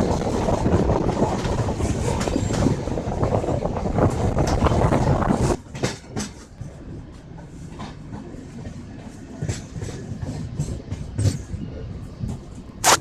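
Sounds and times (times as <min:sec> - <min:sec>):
train low rumble: 0:00.0 - 0:12.8
train rushing: 0:00.0 - 0:13.0.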